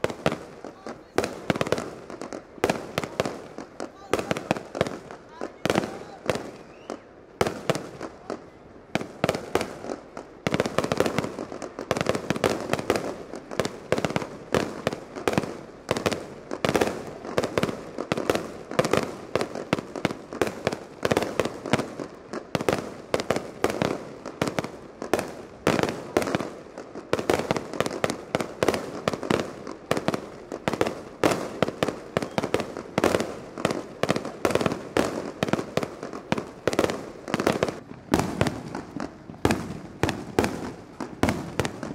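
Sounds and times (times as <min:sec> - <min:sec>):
fireworks bursting: 0:00.0 - 0:41.9.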